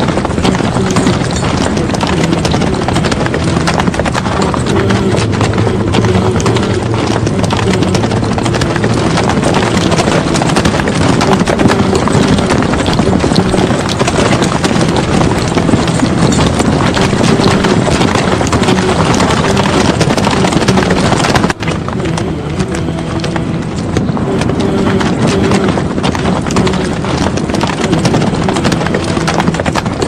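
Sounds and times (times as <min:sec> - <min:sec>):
horses hooves galloping: 0:00.0 - 0:30.0.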